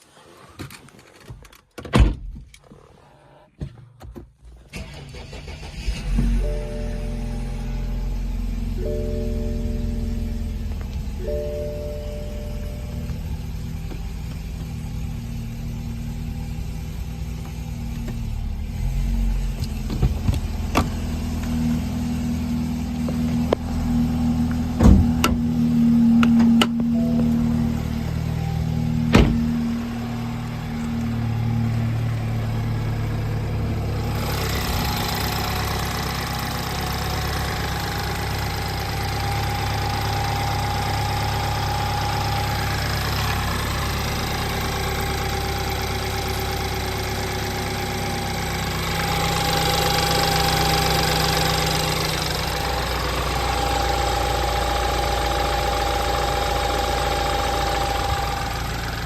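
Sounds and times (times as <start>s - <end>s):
car engine idling: 4.8s - 59.0s.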